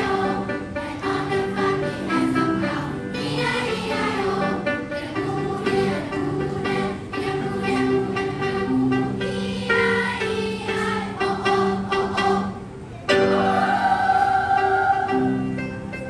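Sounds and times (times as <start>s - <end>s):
choir singing in harmony: 0.0s - 15.9s.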